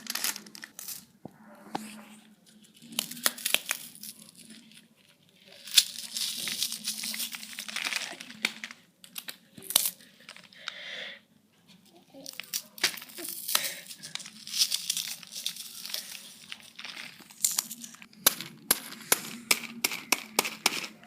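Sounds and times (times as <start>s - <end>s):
crinkly material being crumpled: 0.0s - 10.7s, 11.7s - 19.8s.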